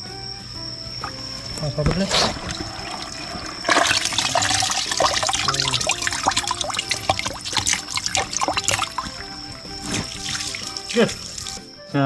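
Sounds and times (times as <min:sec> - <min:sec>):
hands splashing in bucket of water: 0:01.0 - 0:11.6.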